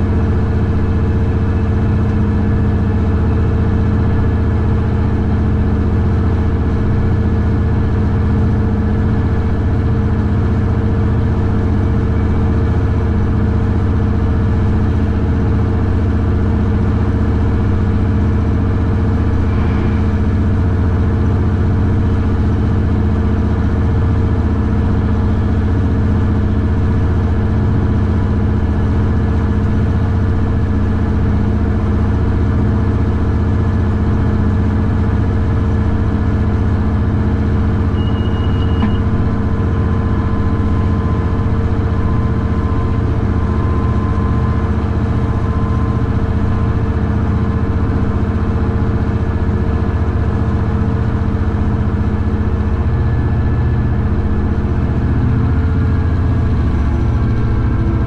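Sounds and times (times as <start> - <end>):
diesel locomotive engine running: 0.0 - 58.0.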